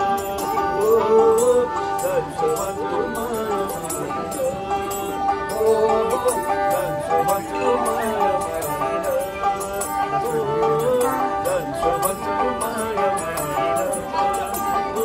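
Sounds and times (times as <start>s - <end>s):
bowed fiddles playing folk tune: 0.0s - 15.0s.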